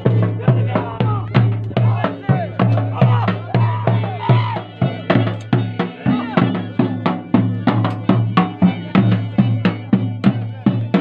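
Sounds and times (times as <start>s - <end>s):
dhol drum beating: 0.0s - 11.0s.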